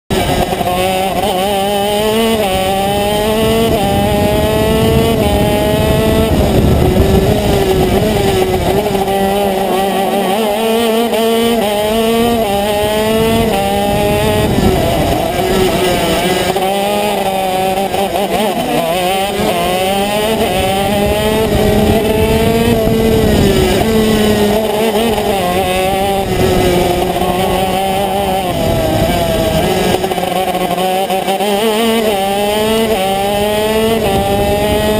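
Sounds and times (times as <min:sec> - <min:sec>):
kart engine revving: 0:00.0 - 0:34.9.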